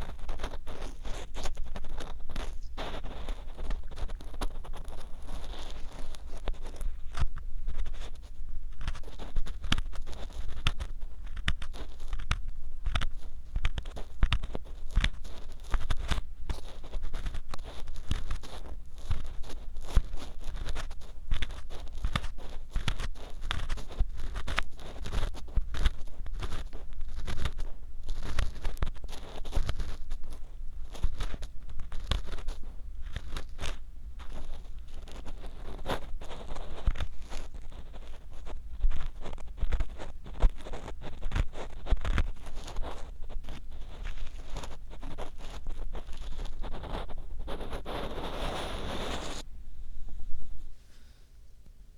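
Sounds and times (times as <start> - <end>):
ear pick scratching microphone: 0.0 - 51.2.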